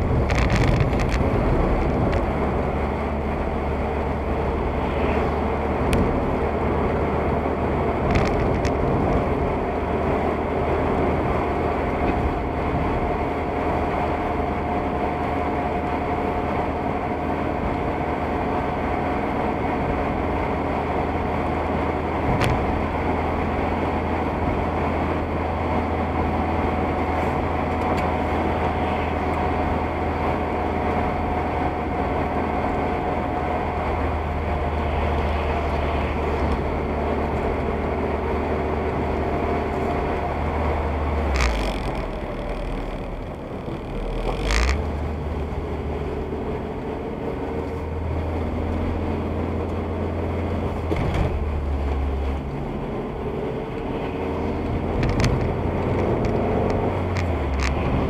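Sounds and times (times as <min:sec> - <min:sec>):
low hum: 0:00.0 - 0:16.4, 0:19.3 - 0:58.0
car driving on wet road: 0:00.0 - 0:58.0.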